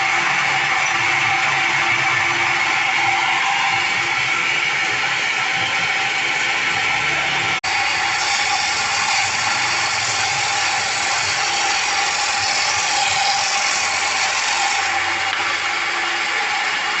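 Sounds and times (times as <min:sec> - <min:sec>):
table saw running: 0:00.0 - 0:17.0.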